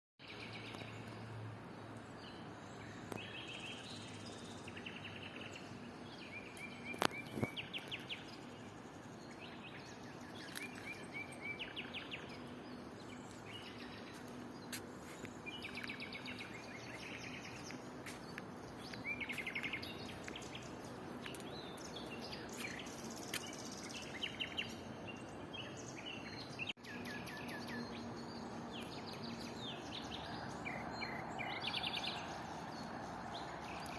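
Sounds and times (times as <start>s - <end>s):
outdoor background noise: 0.2s - 33.9s
songbirds chirping and trilling: 0.2s - 33.9s.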